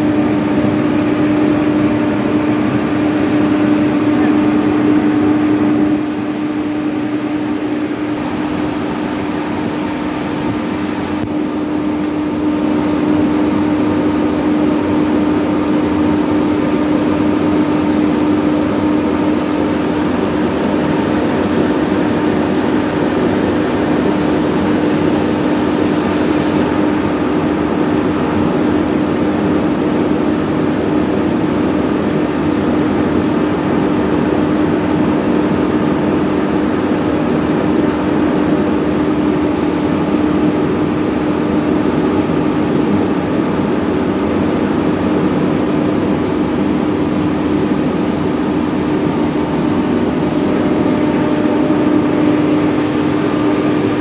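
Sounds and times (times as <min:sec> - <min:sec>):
diesel generator running: 0:00.0 - 0:54.0.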